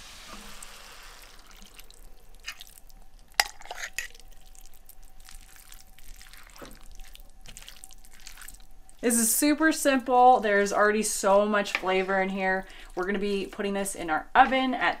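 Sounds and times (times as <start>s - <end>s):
soft wet liquid sounds: 0.6s - 13.8s.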